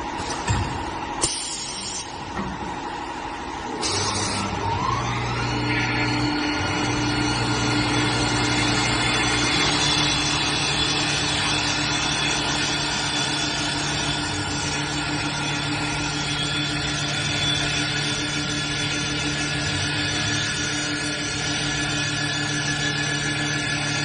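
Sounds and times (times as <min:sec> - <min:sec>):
motor whine and hum: 0:00.0 - 0:24.0.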